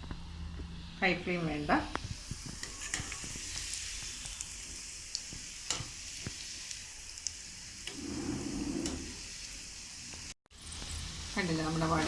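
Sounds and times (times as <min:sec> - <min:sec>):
food sizzling in hot oil: 0:01.3 - 0:12.0.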